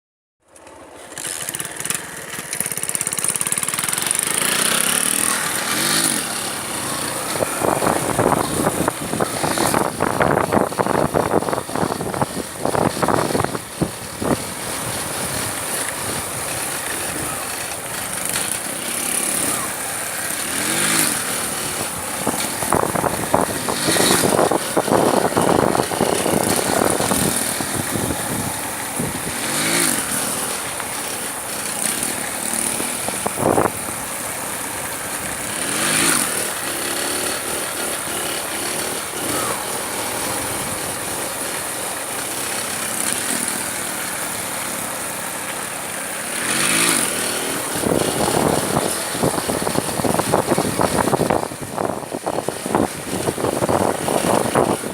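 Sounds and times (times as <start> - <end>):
motorcycle engine revving: 0.5 - 54.9.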